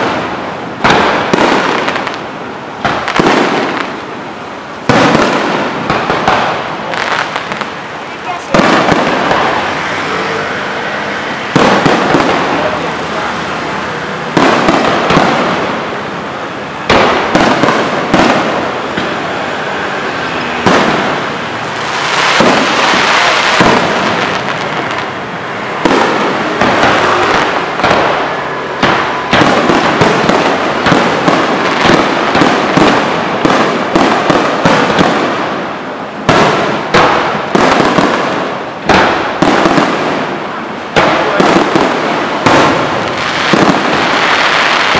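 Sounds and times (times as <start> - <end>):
fireworks bangs: 0.0 - 44.9
fireworks rushing crackle: 0.0 - 44.9.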